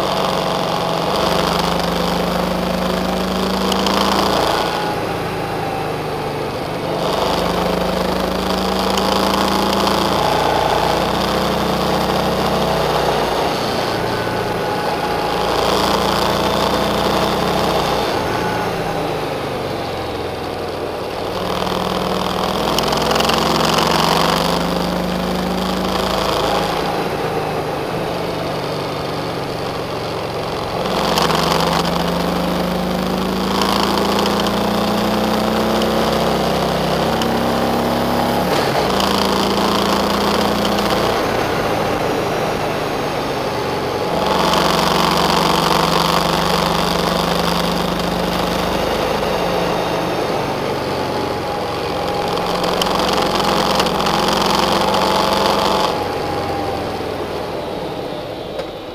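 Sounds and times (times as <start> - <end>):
car engine: 0.0 - 58.9
road noise: 0.0 - 58.9.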